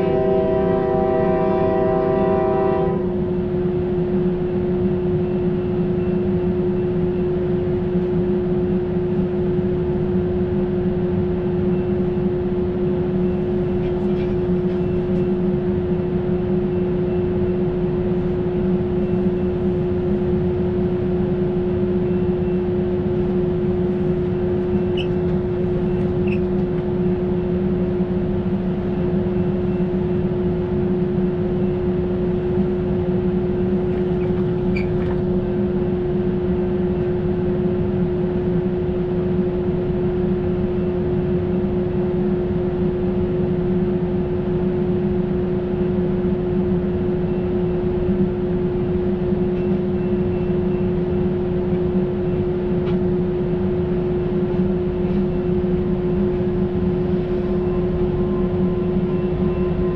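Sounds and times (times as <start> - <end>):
steady mechanical hum: 0.8 - 59.9.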